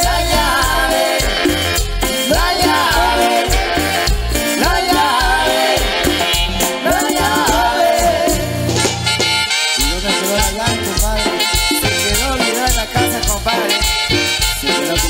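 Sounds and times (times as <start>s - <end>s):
latin dance band music: 0.0s - 15.0s.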